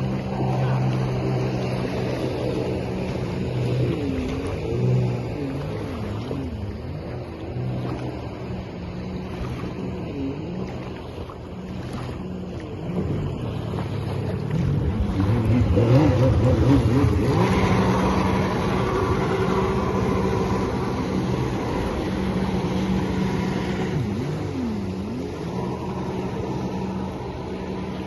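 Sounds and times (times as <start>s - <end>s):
jet ski engine running: 0.0s - 28.0s.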